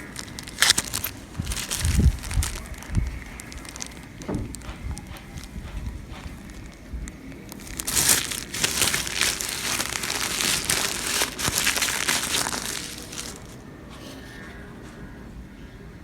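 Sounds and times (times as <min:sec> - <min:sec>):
packaging crinkling: 0:00.0 - 0:13.6.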